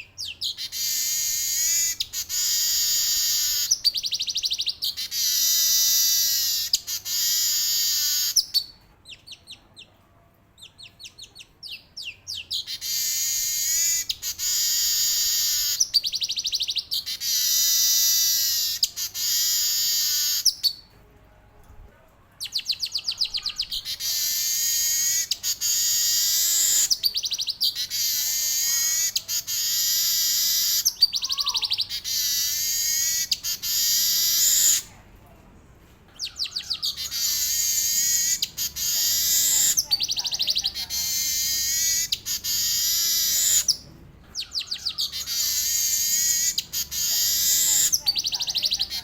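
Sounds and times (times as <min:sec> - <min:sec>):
bird singing trilling song: 0:00.0 - 0:10.0, 0:10.6 - 0:21.0, 0:22.4 - 0:34.9, 0:36.1 - 0:49.0.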